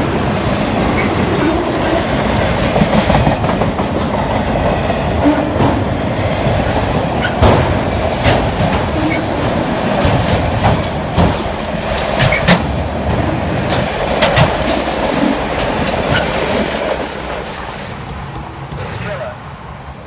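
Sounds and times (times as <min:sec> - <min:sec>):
train wheels clacking over rail joints: 0:00.0 - 0:19.1
freight train rumble: 0:00.0 - 0:20.0.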